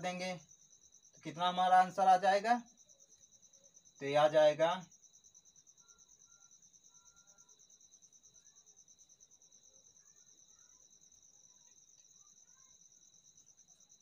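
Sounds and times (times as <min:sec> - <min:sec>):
insect trilling: 0:00.0 - 0:14.0.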